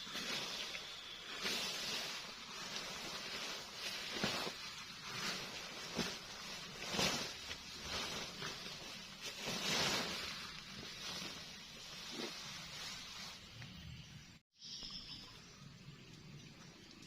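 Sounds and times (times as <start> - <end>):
rustling and scraping: 0.0 - 13.8.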